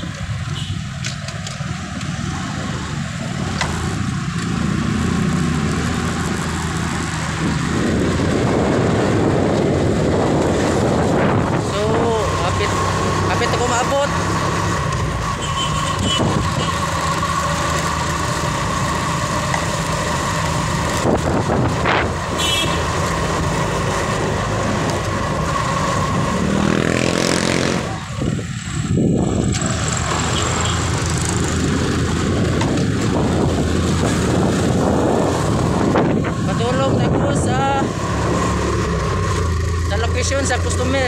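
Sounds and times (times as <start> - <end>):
motorcycle engine humming: 0.0 - 41.0.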